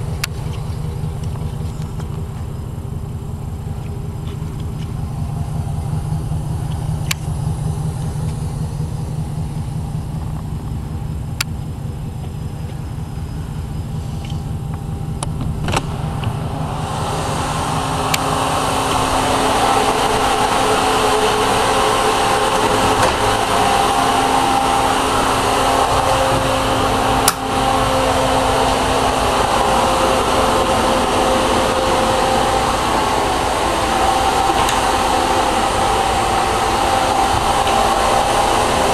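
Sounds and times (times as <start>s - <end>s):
blower fan humming: 0.0s - 38.9s
engine idling: 0.0s - 38.9s.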